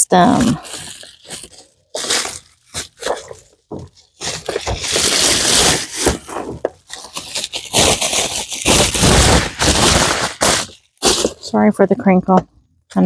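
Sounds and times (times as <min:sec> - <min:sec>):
plastic packaging crinkling: 0:00.2 - 0:11.6.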